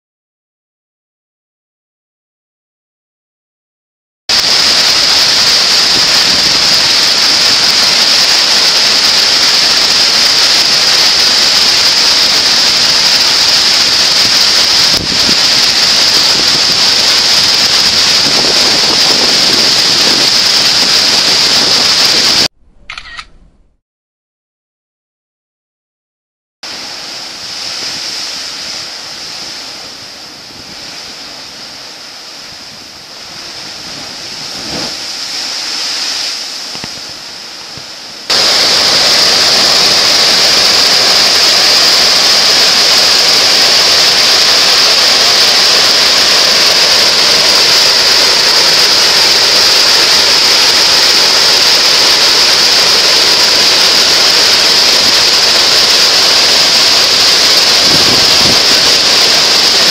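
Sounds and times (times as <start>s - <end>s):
large waterfall rushing: 4.3s - 22.5s, 26.6s - 59.9s
surf hissing: 4.3s - 22.5s, 26.6s - 59.9s
wind: 4.3s - 23.8s, 26.6s - 59.9s.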